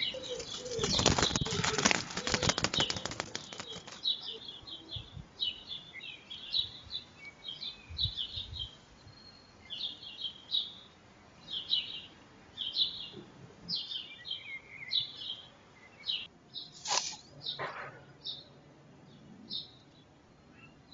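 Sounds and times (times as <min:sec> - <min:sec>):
bird chirping: 0:00.0 - 0:20.9.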